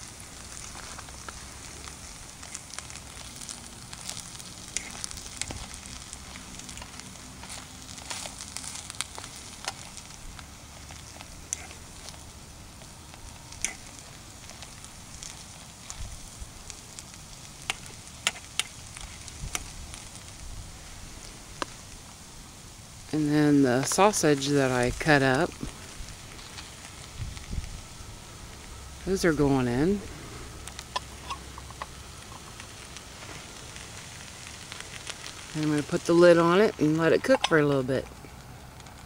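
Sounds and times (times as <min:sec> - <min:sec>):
hash browns sizzling in grease: 0:00.0 - 0:39.0.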